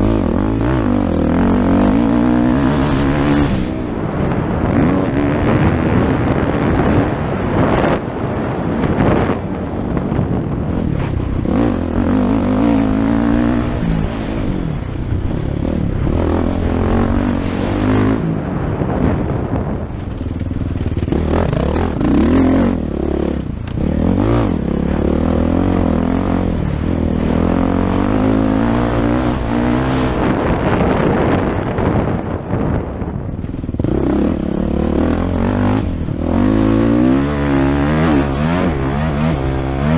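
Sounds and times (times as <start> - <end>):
motocross bike engine revving: 0.0 - 7.9, 8.9 - 32.4, 33.5 - 39.9.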